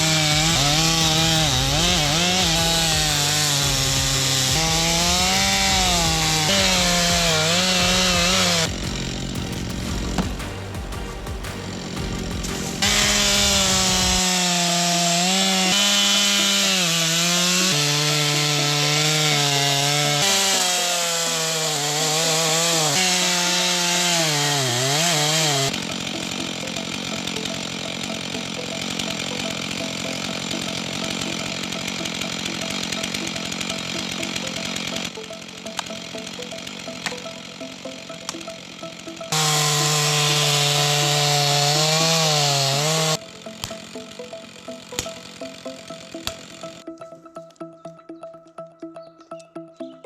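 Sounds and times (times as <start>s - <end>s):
chainsaw cutting at high revs: 0.0s - 47.0s
steady mechanical noise: 0.0s - 47.0s.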